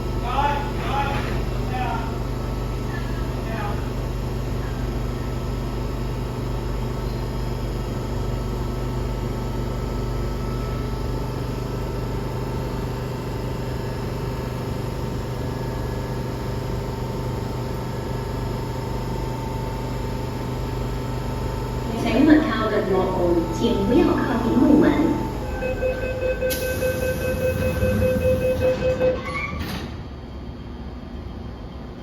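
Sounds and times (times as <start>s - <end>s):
train mechanical hum: 0.0s - 32.0s.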